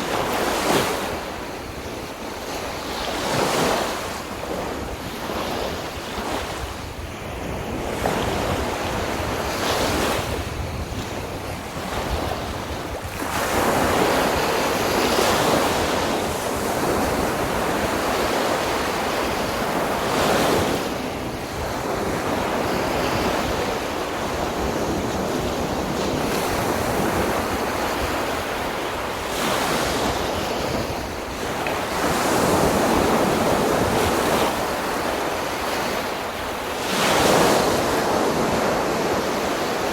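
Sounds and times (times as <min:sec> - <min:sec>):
sea waves breaking on beach: 0:00.0 - 0:39.9
wind buffeting microphone: 0:00.0 - 0:39.9.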